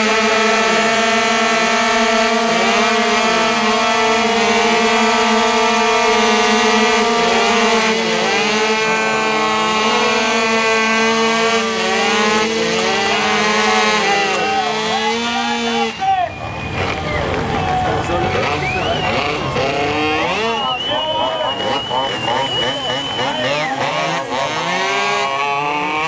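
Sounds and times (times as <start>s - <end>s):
engine revving: 0.0s - 26.0s
scooter engine buzzing: 0.0s - 26.0s.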